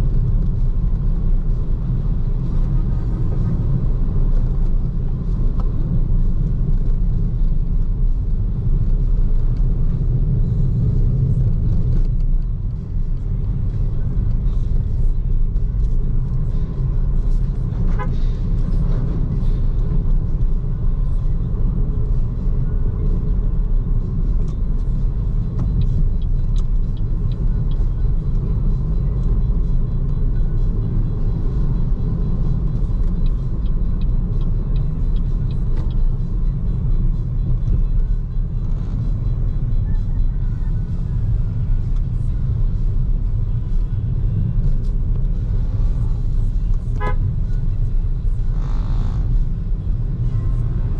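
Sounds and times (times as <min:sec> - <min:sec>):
electric car tyre and road noise: 0:00.0 - 0:50.9.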